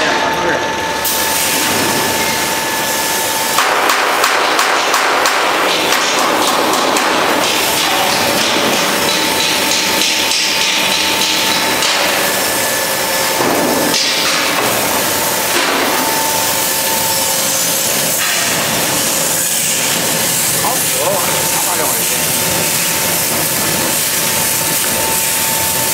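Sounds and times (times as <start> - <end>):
faint machine hum: 0.0 - 25.9.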